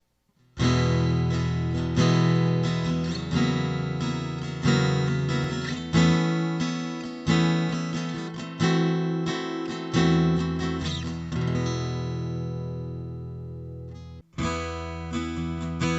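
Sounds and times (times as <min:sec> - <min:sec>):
acoustic guitar strumming and picking: 0:00.6 - 0:15.9.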